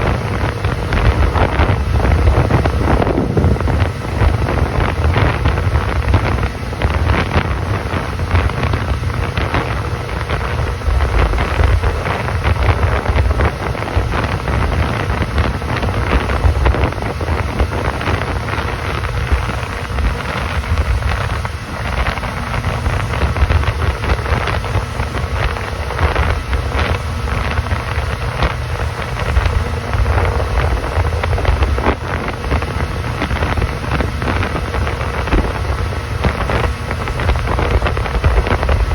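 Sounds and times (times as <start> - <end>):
boat motor rumble: 0.0 - 38.9
water rushing: 0.0 - 38.9
wind buffeting microphone: 0.0 - 38.9.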